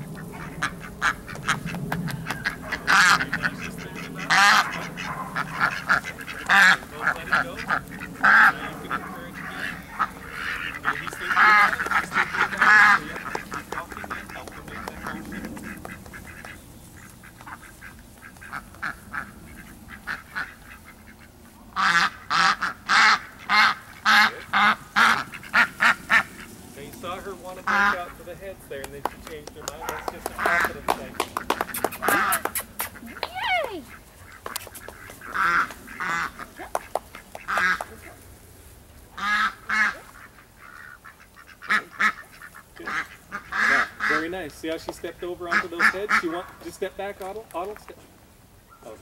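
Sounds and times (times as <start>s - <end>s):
ducks quacking: 0.0s - 38.2s, 39.1s - 47.9s.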